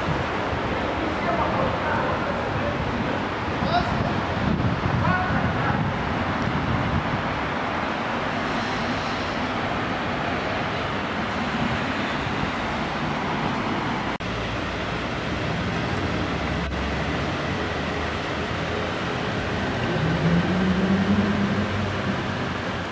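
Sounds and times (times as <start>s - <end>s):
street traffic rumble: 0.0s - 22.9s.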